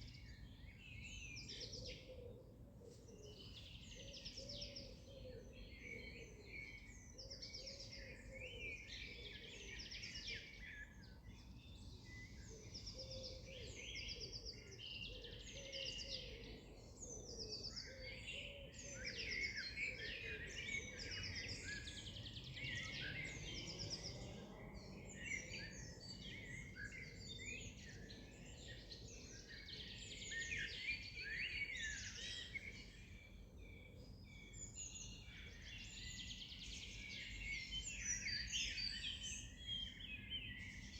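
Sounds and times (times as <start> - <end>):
many birds singing: 0.0 - 40.9.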